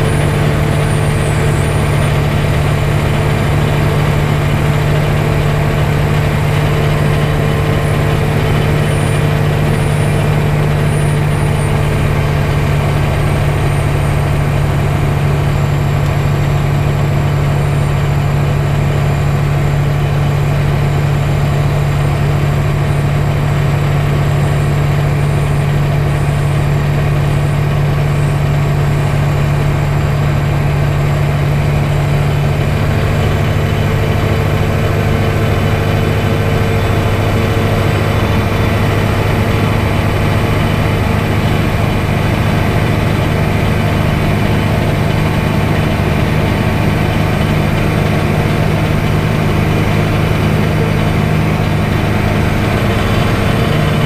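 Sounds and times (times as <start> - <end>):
propeller engine droning: 0.0 - 54.0.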